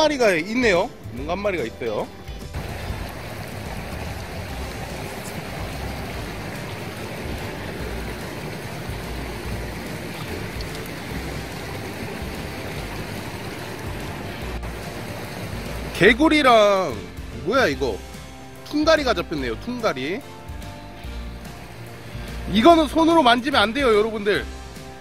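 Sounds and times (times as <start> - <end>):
river water over weir: 0.0 - 25.0.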